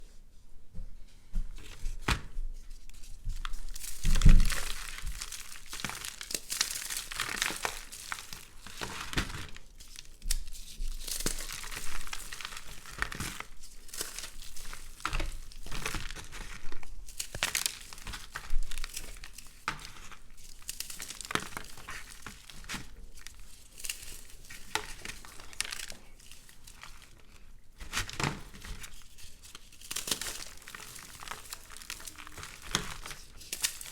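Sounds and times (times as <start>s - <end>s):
soap crackling when crushed by hand: 1.7s - 33.9s.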